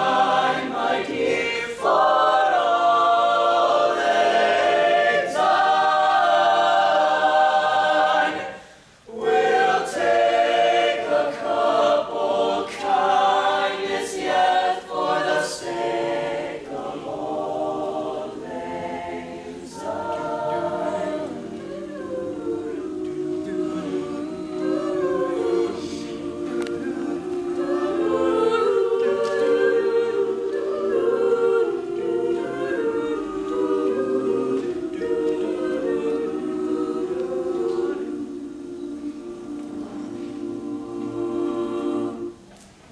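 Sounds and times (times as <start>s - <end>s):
mixed choir singing in harmony: 0.0s - 42.9s.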